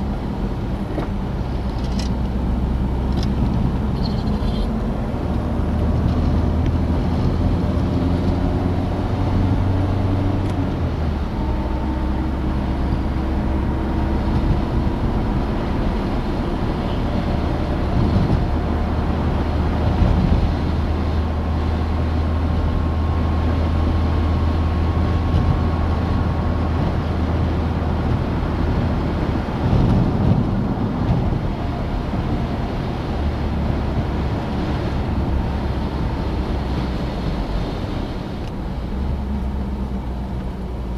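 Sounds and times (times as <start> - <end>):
car engine drone: 0.0 - 40.9
road noise: 0.0 - 40.9
wind noise: 0.0 - 40.9.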